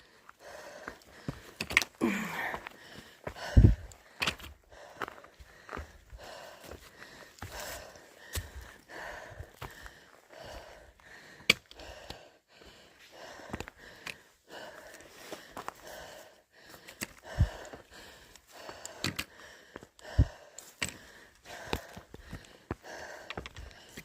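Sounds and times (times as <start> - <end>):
heavy laboured breathing: 0.0 - 24.0.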